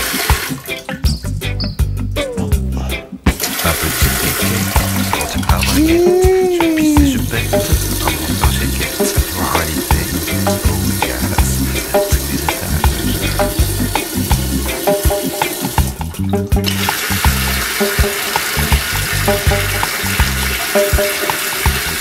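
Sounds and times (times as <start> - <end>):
bidet water jet hissing: 3.4 - 16.0, 16.7 - 22.0.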